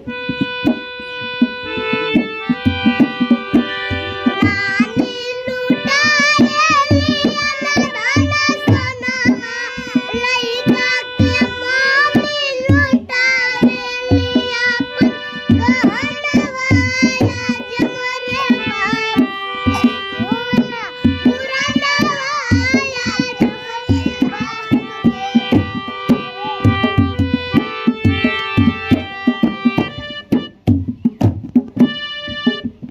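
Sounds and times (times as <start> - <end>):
harmonium sustained reedy notes: 0.0 - 30.8, 31.8 - 32.9
hand drum beat: 0.0 - 32.9
girl singing folk song: 2.2 - 30.0.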